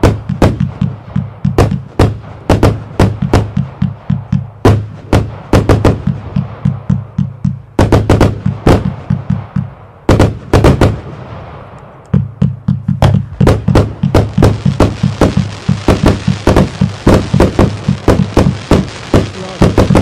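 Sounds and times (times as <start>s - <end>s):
firework launch thumps and bangs: 0.0s - 20.0s.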